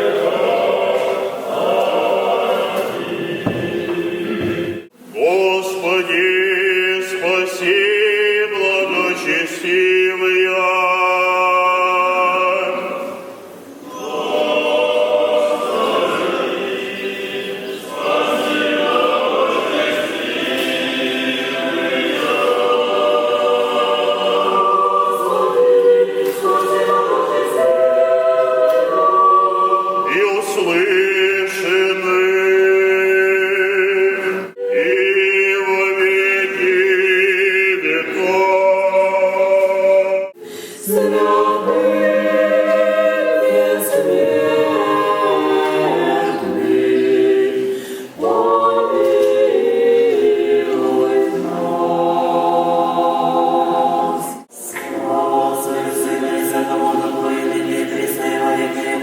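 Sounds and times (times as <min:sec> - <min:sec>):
unaccompanied choir chanting: 0:00.0 - 0:59.0.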